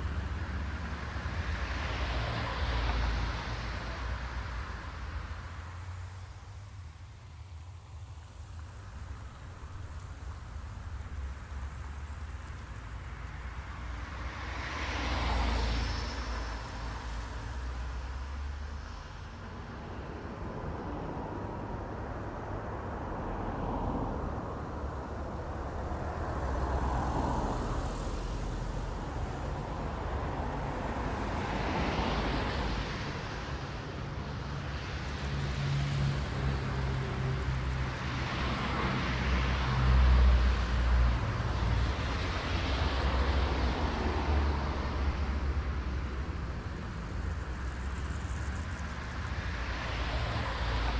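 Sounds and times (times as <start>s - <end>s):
cars passing: 0.0s - 6.8s, 8.2s - 50.9s
low traffic rumble: 0.0s - 50.9s.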